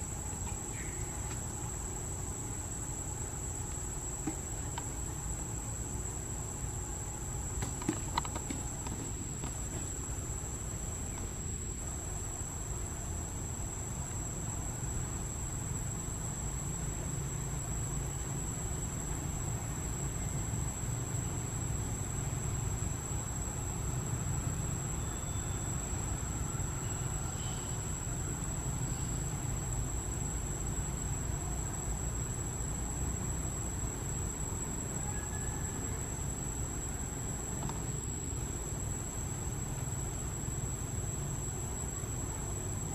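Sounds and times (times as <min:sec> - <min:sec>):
insects droning high-pitched: 0:00.0 - 0:42.9.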